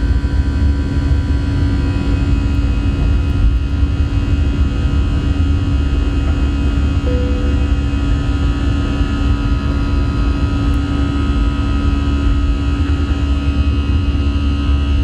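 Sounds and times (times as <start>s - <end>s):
constant engine whine: 0.0s - 15.0s
jet engine cabin rumble: 0.0s - 15.0s.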